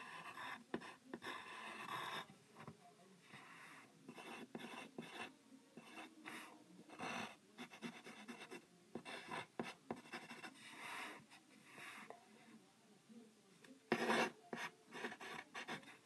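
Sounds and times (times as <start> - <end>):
pencil scratching on paper: 0.0 - 12.1, 13.9 - 16.0.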